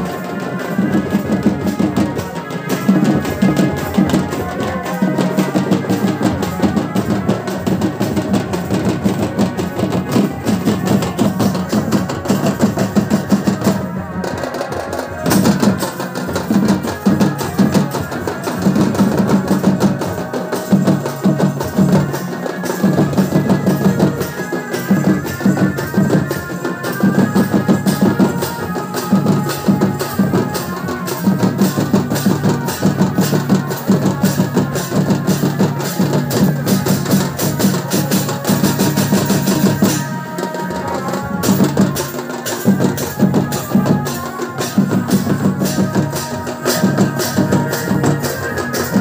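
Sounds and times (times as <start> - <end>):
drums beaten with sticks: 0.0 - 49.0.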